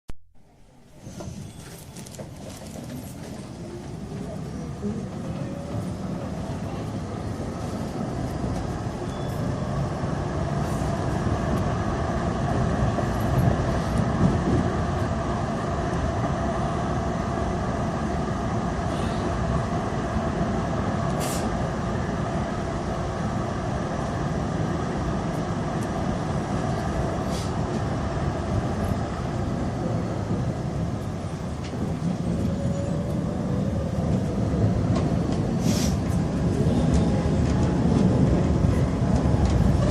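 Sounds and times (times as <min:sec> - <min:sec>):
tram rumbling on rails: 0:00.4 - 0:39.9.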